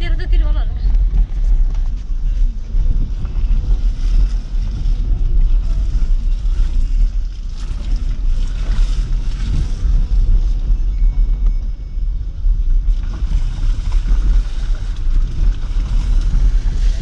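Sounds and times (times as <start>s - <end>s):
car road noise: 0.0s - 17.0s
wind buffeting microphone: 0.0s - 17.0s.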